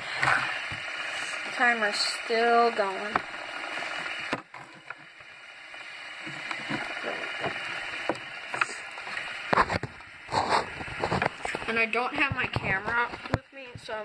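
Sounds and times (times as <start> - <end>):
fidget spinner whirring: 0.0 - 14.0.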